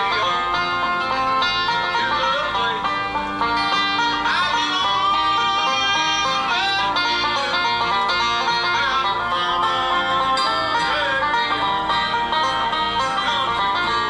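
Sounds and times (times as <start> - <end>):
banjo and acoustic guitar through phone: 0.0 - 14.0.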